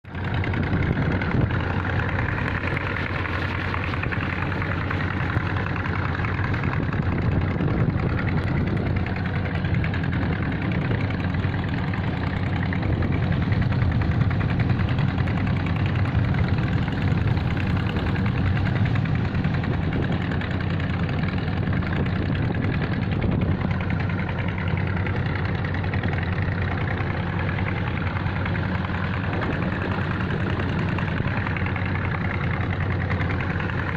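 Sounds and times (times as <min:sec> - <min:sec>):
ship engine humming: 0:00.0 - 0:33.9.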